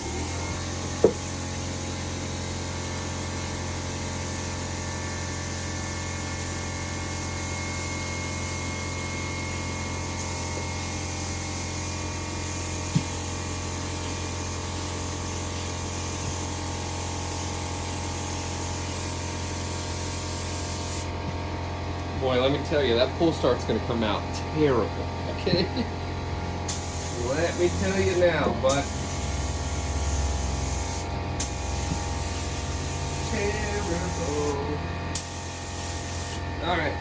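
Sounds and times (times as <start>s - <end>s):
paint spray gun hissing: 0.0s - 21.2s, 26.6s - 36.8s.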